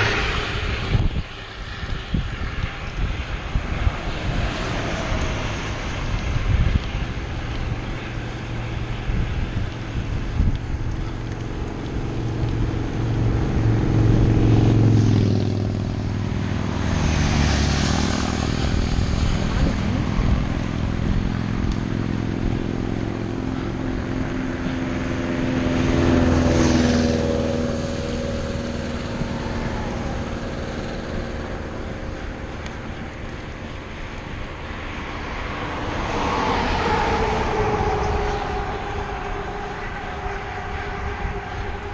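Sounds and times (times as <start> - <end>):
road and wind noise: 0.0 - 41.9
vehicle engines passing by: 0.0 - 41.9.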